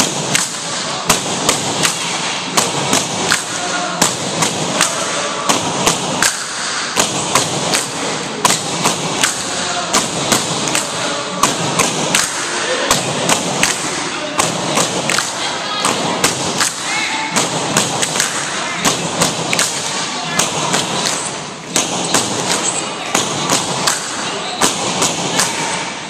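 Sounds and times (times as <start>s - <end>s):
poles clapped together: 0.0s - 26.0s.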